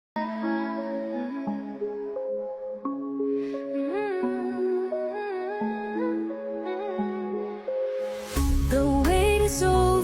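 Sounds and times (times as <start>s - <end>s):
slow gliding melody: 0.2s - 10.0s.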